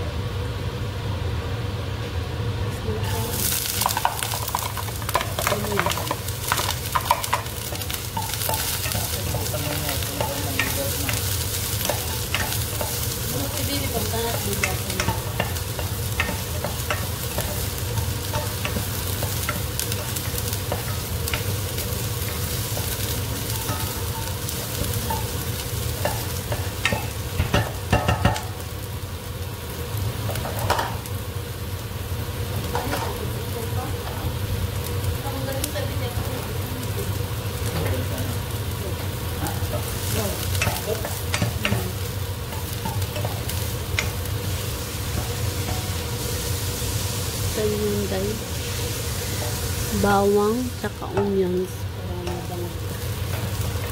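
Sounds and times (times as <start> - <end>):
garlic and onion sizzling in oil: 0.0 - 53.9.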